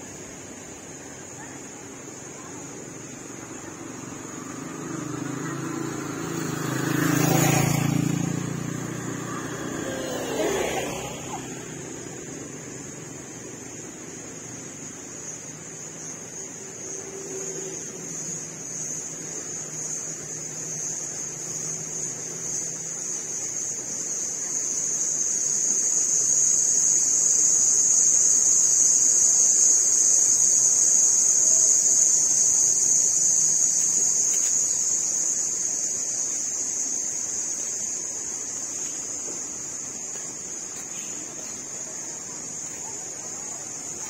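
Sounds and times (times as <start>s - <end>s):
high-pitched insect drone: 0.0s - 44.0s.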